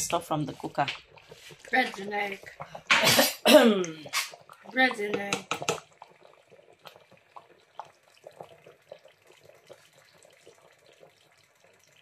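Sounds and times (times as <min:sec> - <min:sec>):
stew bubbling on stove: 0:00.0 - 0:12.0.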